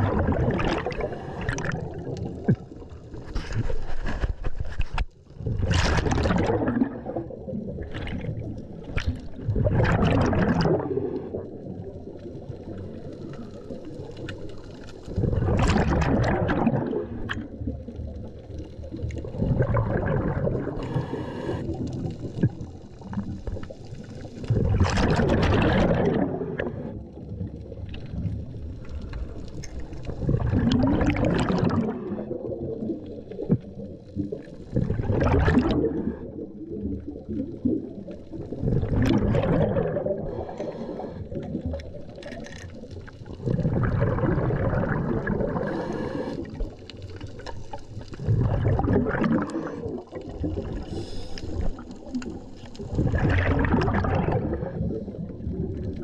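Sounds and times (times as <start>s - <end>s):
exhaled bubbles gurgling underwater: 0.0s - 56.0s.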